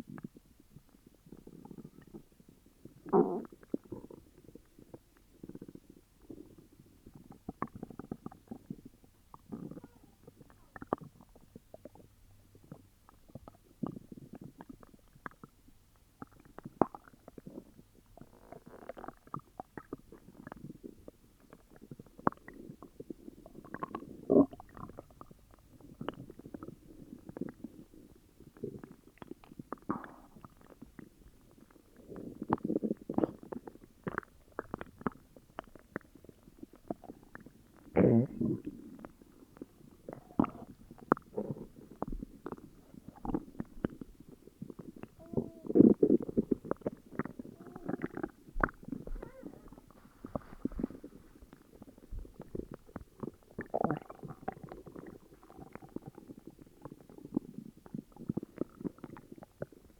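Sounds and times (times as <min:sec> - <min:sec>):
stomach growling and gurgling: 0:00.0 - 0:59.9.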